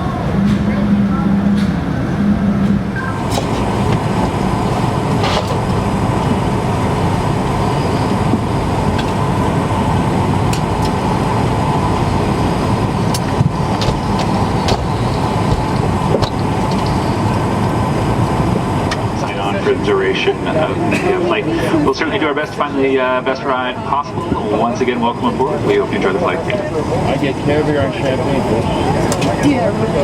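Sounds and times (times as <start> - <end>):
ventilation air rushing: 0.0 - 30.0.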